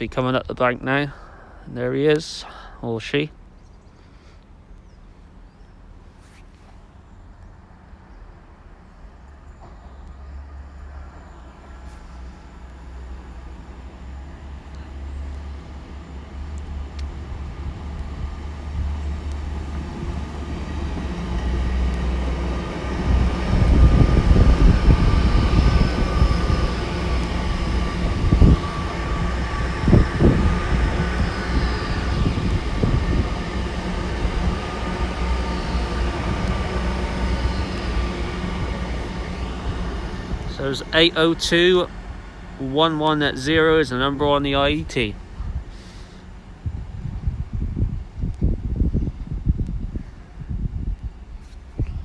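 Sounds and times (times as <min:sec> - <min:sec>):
rail rumble: 0:00.0 - 0:52.0
train diesel engine drone: 0:00.0 - 0:52.0.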